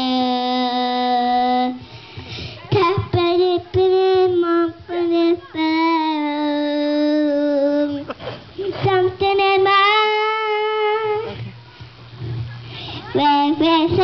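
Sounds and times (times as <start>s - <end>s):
girl singing into a microphone: 0.0s - 11.6s, 12.7s - 14.0s.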